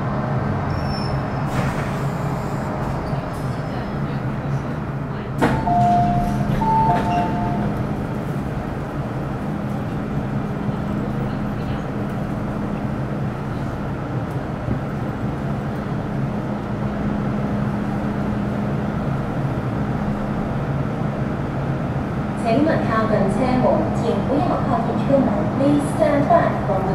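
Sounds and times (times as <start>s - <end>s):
train low hum: 0.0s - 26.9s.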